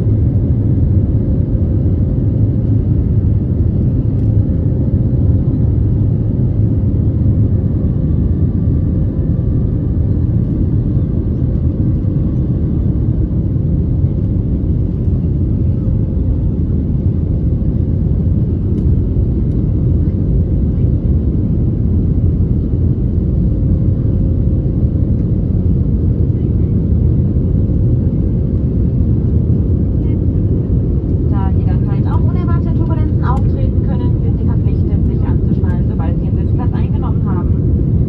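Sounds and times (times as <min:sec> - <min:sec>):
aircraft cabin engine rumble: 0:00.0 - 0:38.0.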